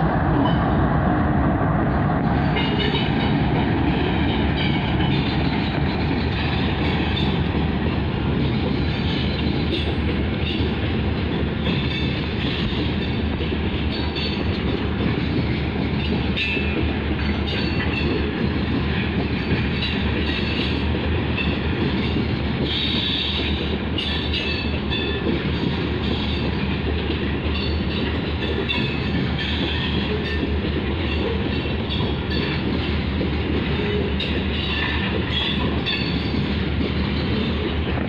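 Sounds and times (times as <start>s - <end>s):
steel wheels on rail: 0.0s - 38.0s.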